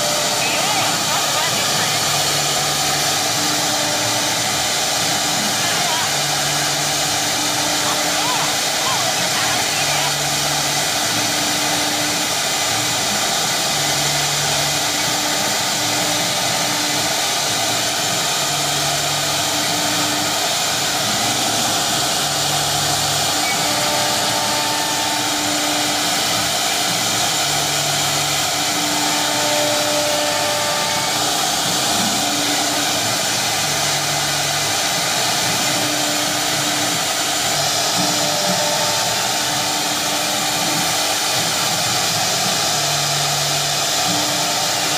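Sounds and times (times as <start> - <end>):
router spindles whining: 0.0 - 44.9.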